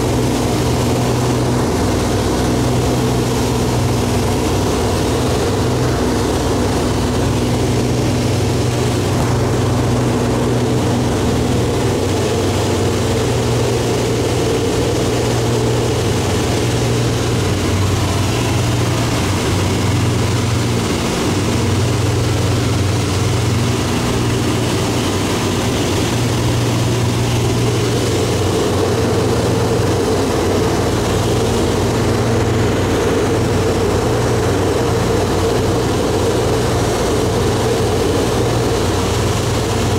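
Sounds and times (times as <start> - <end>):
airflow noise: 0.0 - 39.9
propeller aircraft engine droning: 0.0 - 39.9.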